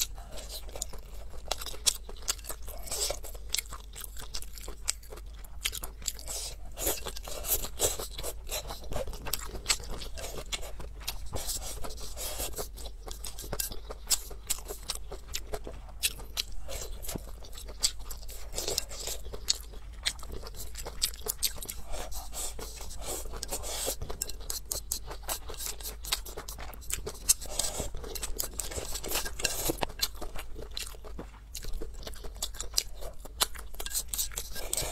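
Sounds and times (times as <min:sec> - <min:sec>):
wet chewing and crunching: 0:00.0 - 0:34.9.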